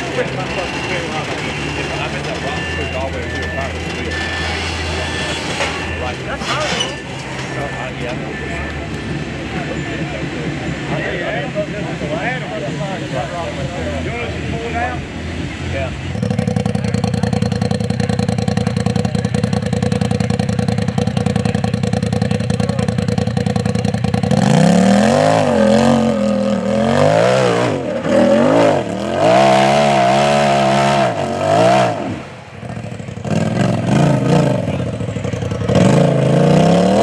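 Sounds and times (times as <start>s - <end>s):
buggy engine revving: 0.0s - 37.0s.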